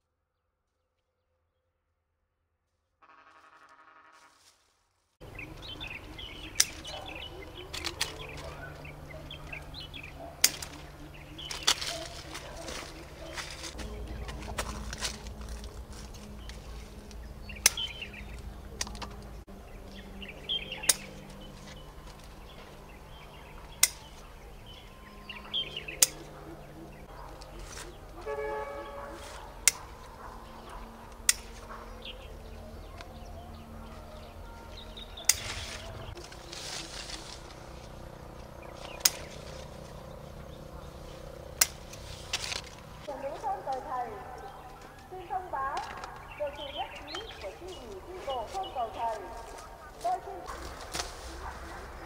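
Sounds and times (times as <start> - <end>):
leaves rustling: 3.0 - 52.0
stems snapping: 5.3 - 20.0, 20.6 - 28.4, 29.0 - 33.2, 35.0 - 40.0, 41.1 - 52.0
pruning shears snipping: 5.3 - 33.2, 34.8 - 40.0, 40.9 - 52.0.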